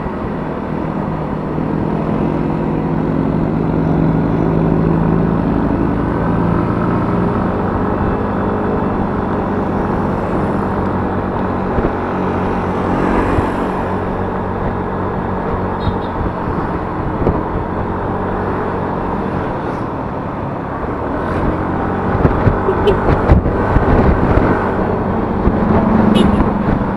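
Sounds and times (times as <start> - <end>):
scooter engine running: 0.0 - 26.9.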